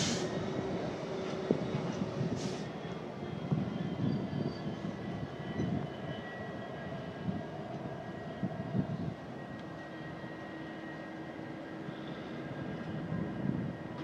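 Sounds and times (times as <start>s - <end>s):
wind buffeting microphone: 0.0s - 10.4s, 12.4s - 14.0s
diesel locomotive drone: 0.0s - 14.0s.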